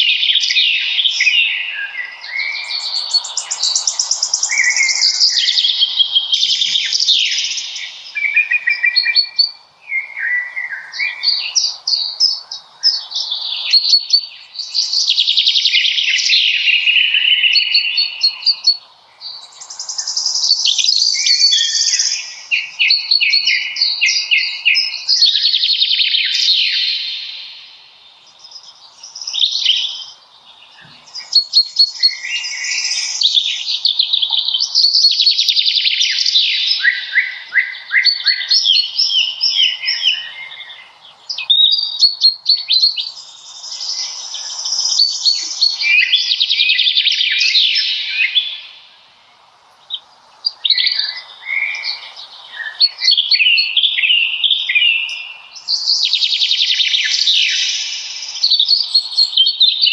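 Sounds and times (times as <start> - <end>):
songbirds warbling: 0.0 - 59.9.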